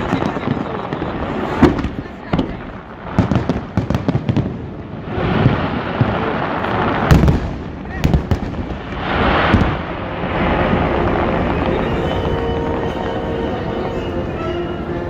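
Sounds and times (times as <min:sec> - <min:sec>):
crowd voices: 0:00.0 - 0:15.0
fireworks cracking and banging: 0:00.0 - 0:15.0.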